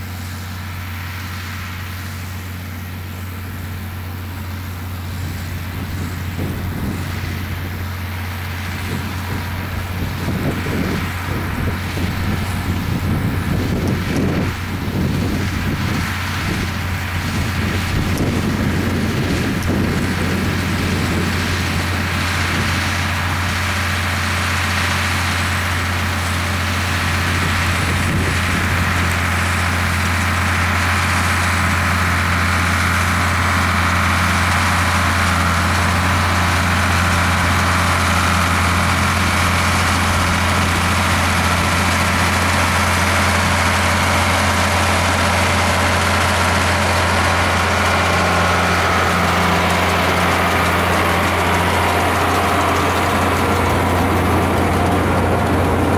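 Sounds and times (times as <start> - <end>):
tractor diesel engine droning: 0.0 - 55.9.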